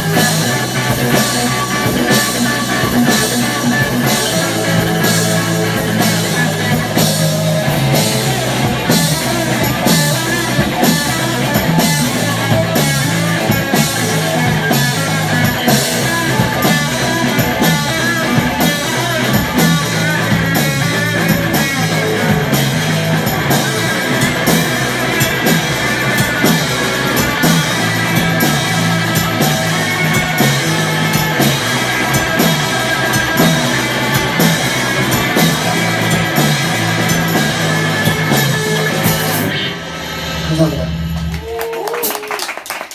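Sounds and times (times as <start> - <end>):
drum kit beat: 0.0 - 42.9
electric guitar: 0.0 - 42.9
rock band playing live: 0.0 - 42.9.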